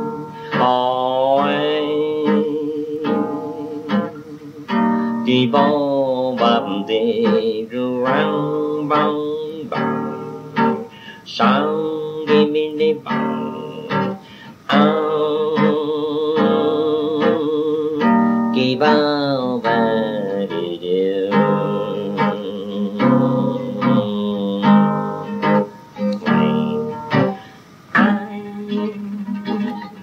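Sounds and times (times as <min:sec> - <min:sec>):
acoustic guitar: 0:00.0 - 0:30.0
man singing: 0:00.0 - 0:30.0.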